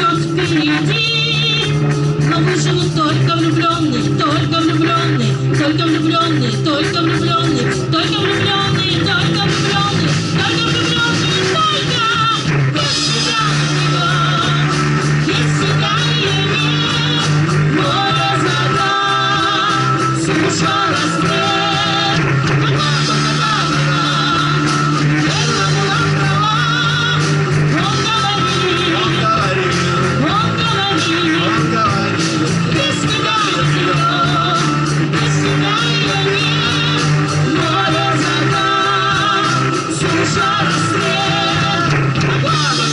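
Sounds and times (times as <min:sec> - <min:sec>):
live rock band playing: 0:00.0 - 0:42.9
woman singing: 0:00.0 - 0:42.9.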